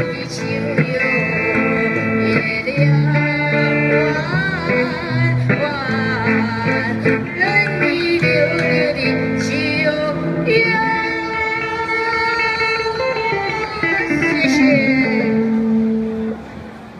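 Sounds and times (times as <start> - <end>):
woman singing into microphone: 0.0 - 16.4
electric guitar through amplifier: 0.0 - 16.9.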